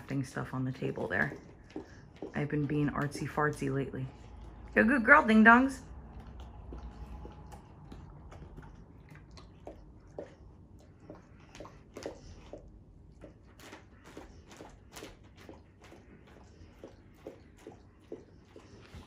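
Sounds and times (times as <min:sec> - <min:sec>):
dog licking: 0:00.0 - 0:19.0.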